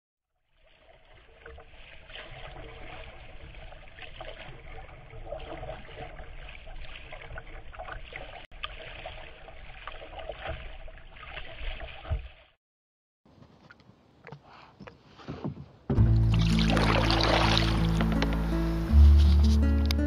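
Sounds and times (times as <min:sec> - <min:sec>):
water splashing around kayak: 0:00.5 - 0:12.6, 0:13.4 - 0:19.6.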